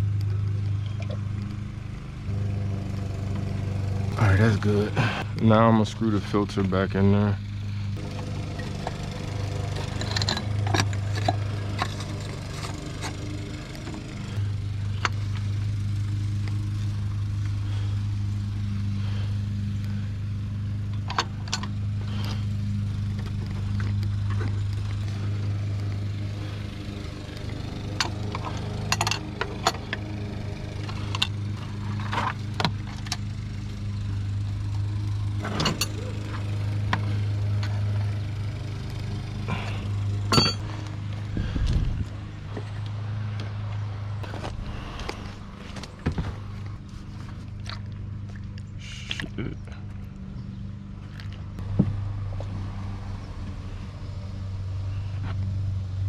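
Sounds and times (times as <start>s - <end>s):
low motor hum: 0.0s - 56.0s.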